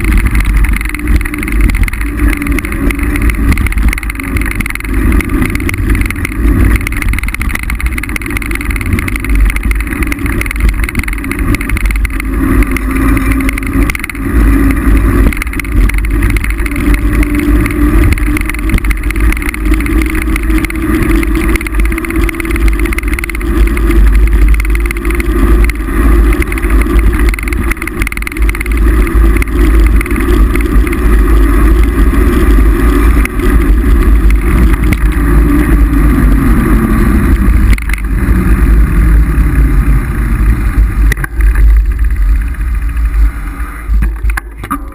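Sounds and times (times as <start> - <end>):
bike tyre and rattle noise: 0.0 - 44.9
low wavering hum: 0.0 - 44.9
wind buffeting microphone: 0.0 - 44.9.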